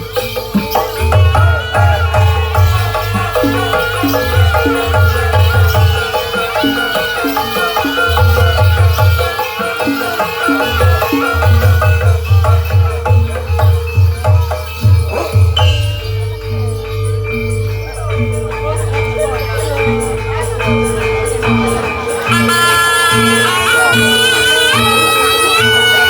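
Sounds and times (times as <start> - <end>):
struck pitched notes: 0.0 - 26.0.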